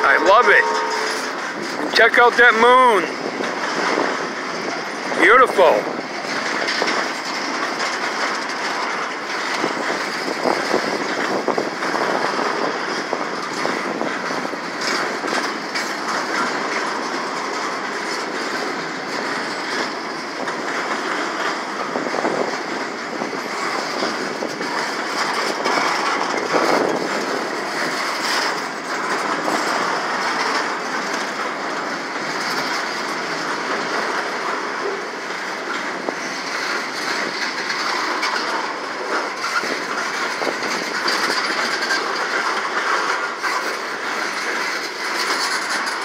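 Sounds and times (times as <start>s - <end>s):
steel wheels rolling on rail: 0.0s - 46.0s
wheels clicking over rail joints: 0.0s - 46.0s.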